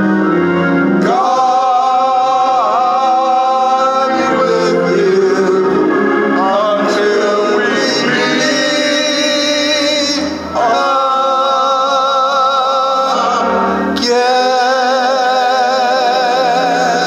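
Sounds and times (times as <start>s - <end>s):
voices singing gospel song: 0.9s - 17.0s.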